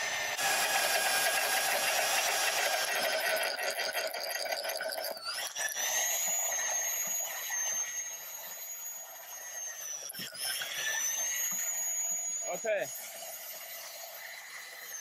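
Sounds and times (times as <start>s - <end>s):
magnetic drill whining through steel: 0.0s - 15.0s.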